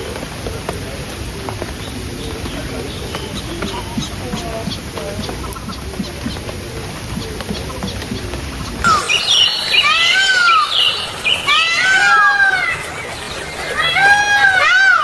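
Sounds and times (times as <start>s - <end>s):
birds calling: 0.0s - 15.0s
mixed background sound: 0.0s - 15.0s.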